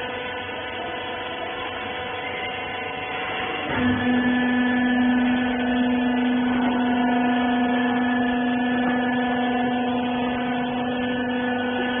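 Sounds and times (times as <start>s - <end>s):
baler motor and pump hum: 0.0s - 12.0s.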